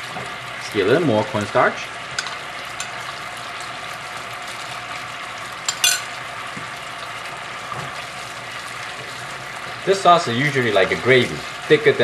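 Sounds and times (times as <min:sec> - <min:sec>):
sauce bubbling and sizzling: 0:00.0 - 0:12.0.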